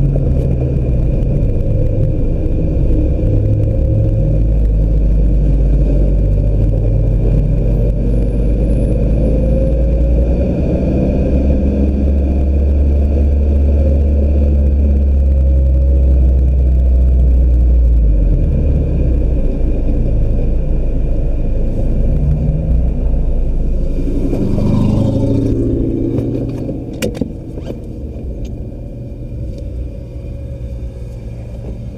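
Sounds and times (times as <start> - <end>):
car engine running: 0.0 - 31.9
road and wind noise: 0.0 - 31.9.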